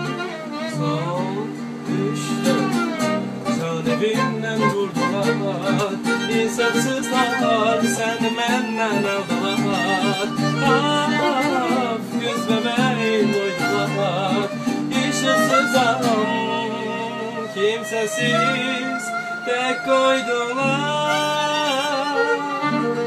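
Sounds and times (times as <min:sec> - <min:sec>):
strummed acoustic guitar: 0:00.0 - 0:23.0
violin melody: 0:00.0 - 0:23.0.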